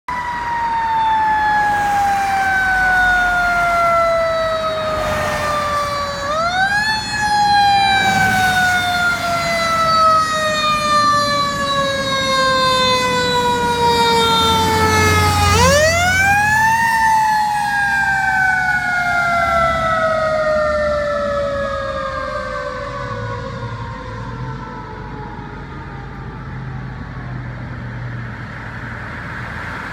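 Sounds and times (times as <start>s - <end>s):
fire engine siren wailing: 0.1s - 29.9s.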